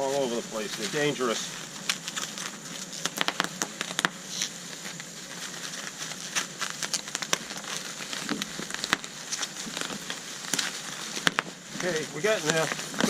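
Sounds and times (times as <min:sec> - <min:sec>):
packing peanuts rustling in a box: 0:00.0 - 0:13.0.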